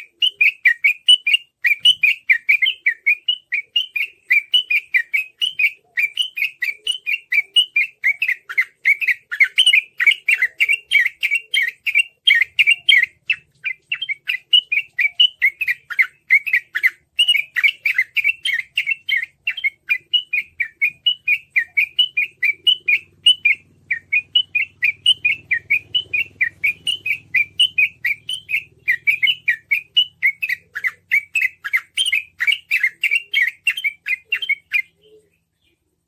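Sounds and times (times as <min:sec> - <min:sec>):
bird chirping rapidly: 0:00.0 - 0:35.8.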